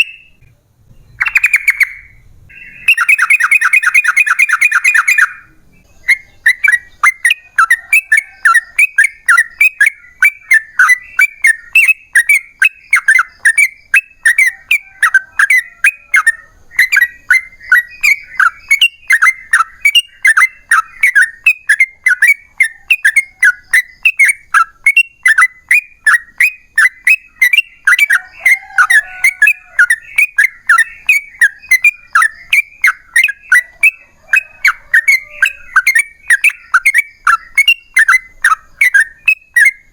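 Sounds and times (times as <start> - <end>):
bird chattering whistled notes: 0.0 - 39.9.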